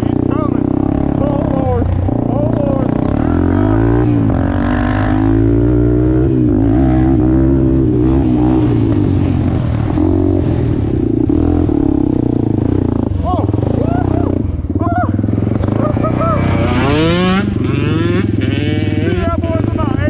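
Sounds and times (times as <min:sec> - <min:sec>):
small engine revving: 0:00.0 - 0:19.9.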